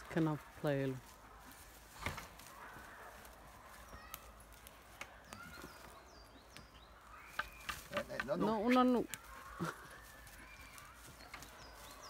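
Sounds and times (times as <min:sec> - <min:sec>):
rustling through leaf litter: 0:00.0 - 0:06.4, 0:07.0 - 0:12.0
twigs cracking: 0:00.0 - 0:12.0.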